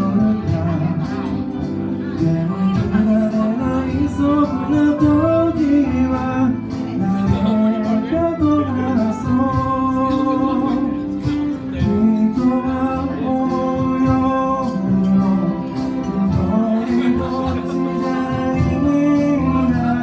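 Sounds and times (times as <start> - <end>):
electronic organ chords: 0.0 - 20.0
live band playing pop ballad: 0.0 - 20.0
person singing: 0.0 - 20.0.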